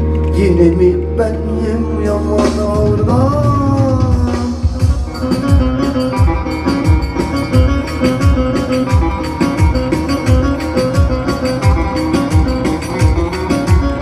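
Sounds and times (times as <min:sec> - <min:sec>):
folk melody line: 0:00.0 - 0:14.0
steady drum beat: 0:02.3 - 0:14.0.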